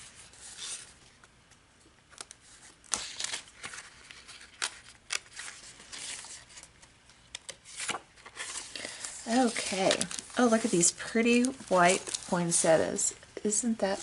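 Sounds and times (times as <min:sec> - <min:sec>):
plastic wrapper crinkling: 0:00.6 - 0:13.2.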